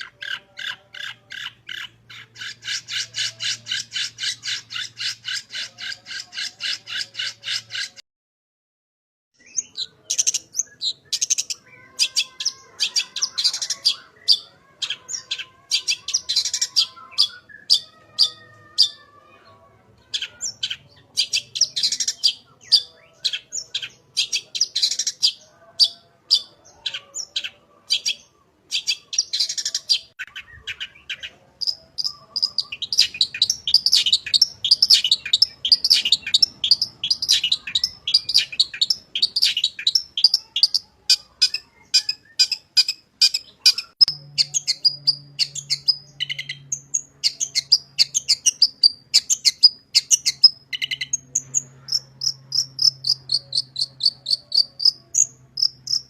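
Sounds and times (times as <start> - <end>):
shrike singing: 9.4 - 19.3, 20.0 - 56.0.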